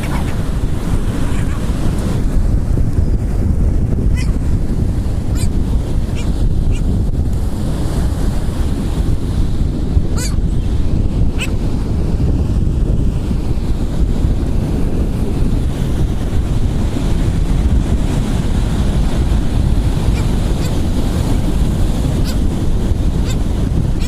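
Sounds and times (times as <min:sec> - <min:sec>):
surf washing on beach: 0:00.0 - 0:24.0
wind buffeting microphone: 0:00.0 - 0:24.0.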